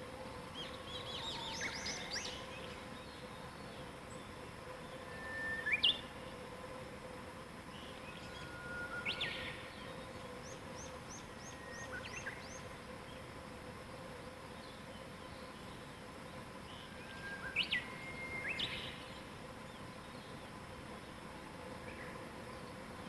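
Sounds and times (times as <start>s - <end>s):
faint hum and hiss: 0.0s - 23.0s
songbirds singing: 0.4s - 6.2s, 7.6s - 23.0s.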